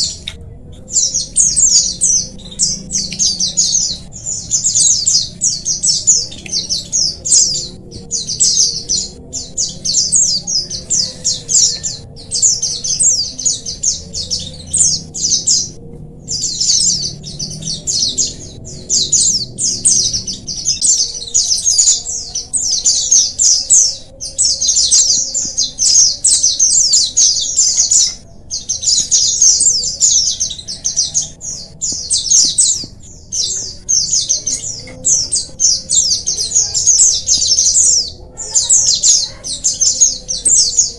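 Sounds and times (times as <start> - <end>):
birds chirping in chorus: 0.0 - 40.9.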